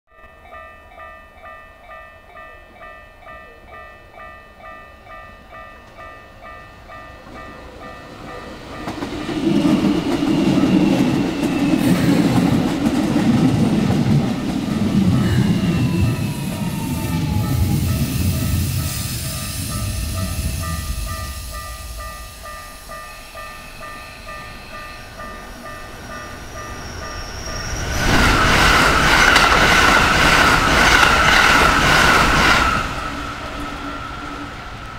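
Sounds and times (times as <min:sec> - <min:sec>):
train wheels rumbling on rails: 0:05.8 - 0:34.9.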